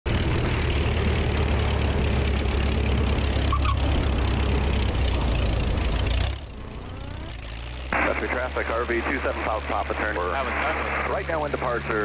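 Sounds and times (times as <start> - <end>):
plane engine and propeller: 0.1 - 12.0.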